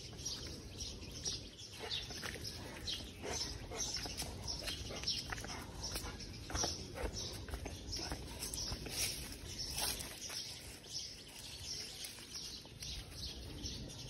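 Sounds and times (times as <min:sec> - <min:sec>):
footsteps scuffing on concrete: 0:00.0 - 0:12.8
dog's paws on concrete: 0:00.0 - 0:14.0
small birds chirping: 0:00.0 - 0:14.0.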